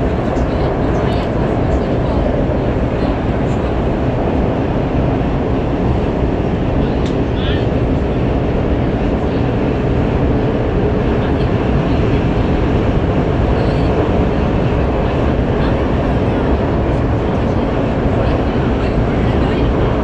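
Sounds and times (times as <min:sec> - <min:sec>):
train rumbling in tunnel: 0:00.0 - 0:20.0.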